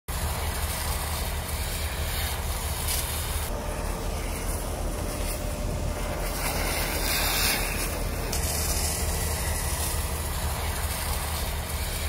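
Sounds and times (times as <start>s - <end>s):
bright hiss: 0.1s - 12.0s
fire engines low rumble: 0.1s - 12.0s.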